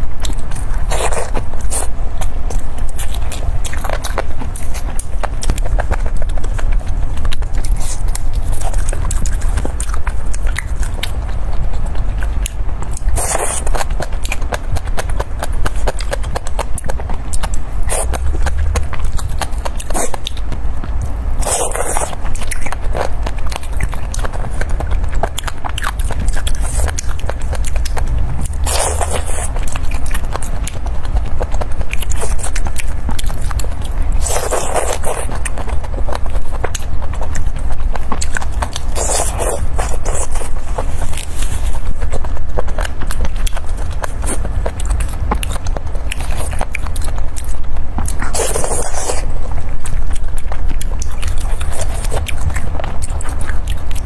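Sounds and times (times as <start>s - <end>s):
steady low hum: 0.0s - 54.0s
wet chewing and lip smacking: 0.0s - 54.0s.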